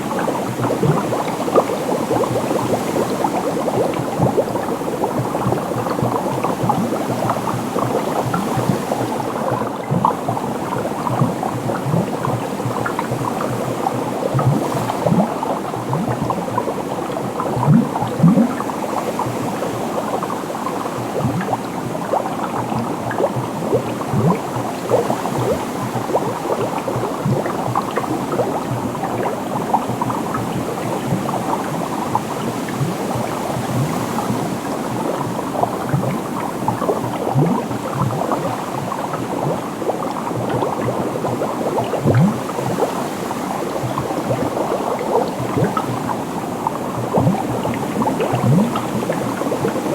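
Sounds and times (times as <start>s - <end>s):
water bubbling: 0.0s - 49.9s.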